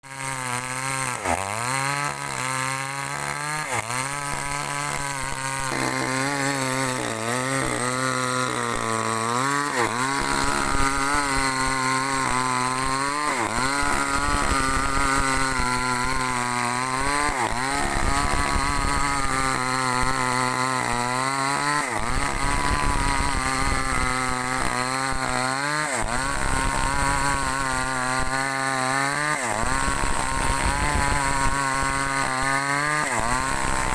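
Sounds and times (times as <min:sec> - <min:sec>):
chainsaw cutting log: 0:00.0 - 0:33.9.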